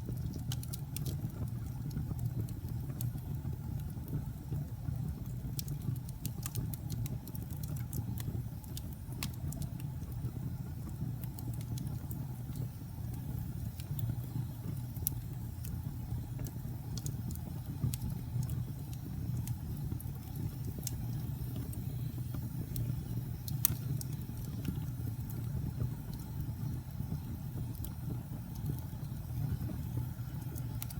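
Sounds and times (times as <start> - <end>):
fire crackling and popping: 0.0 - 30.9
fire low rumble: 0.0 - 30.9.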